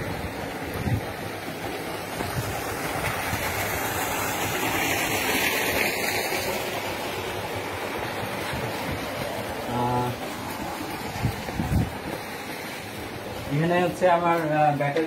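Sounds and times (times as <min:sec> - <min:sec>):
aerators splashing water: 0:00.0 - 0:15.0.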